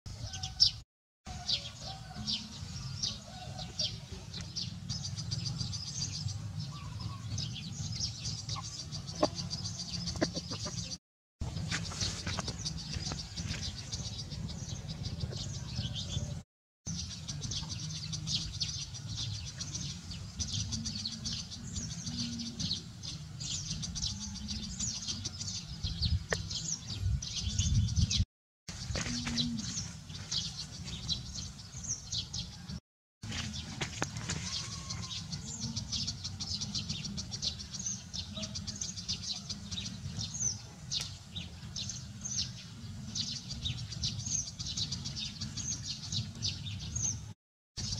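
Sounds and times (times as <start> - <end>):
small birds chirping: 1.4 - 47.9.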